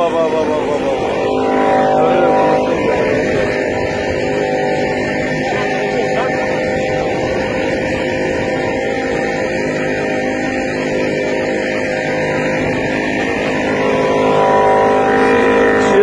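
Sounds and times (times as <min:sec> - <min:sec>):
outboard motor running: 0:00.0 - 0:16.0
water noise: 0:00.0 - 0:16.0
wind noise: 0:00.0 - 0:16.0.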